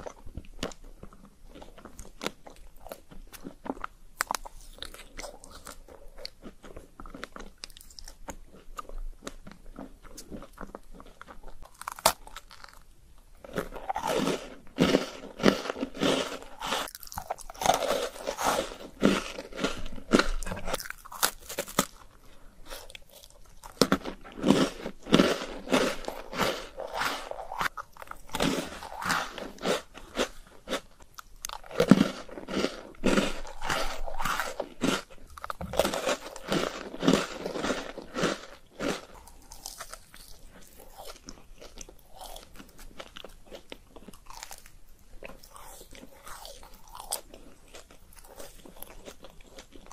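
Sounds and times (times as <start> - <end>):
crunching and chewing ice cream: 0.0 - 49.9.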